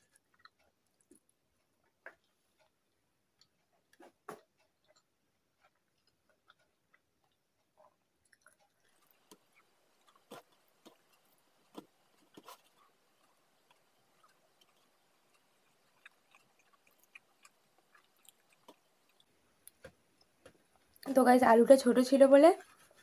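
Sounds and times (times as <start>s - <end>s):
person chewing food: 0.0s - 21.1s, 22.6s - 23.0s.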